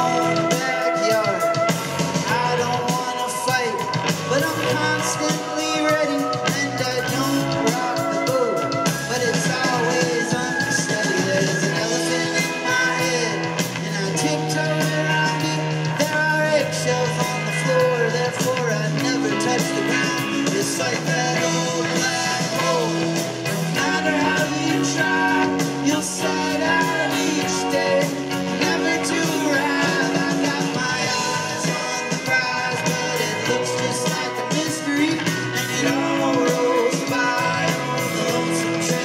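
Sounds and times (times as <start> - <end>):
man singing: 0.0 - 39.0
rock band playing live: 0.0 - 39.0.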